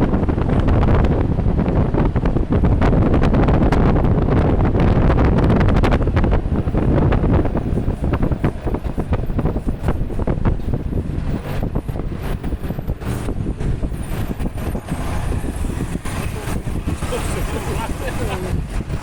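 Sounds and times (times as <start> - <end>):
wind buffeting microphone: 0.0 - 19.0
truck engine running: 0.2 - 19.0.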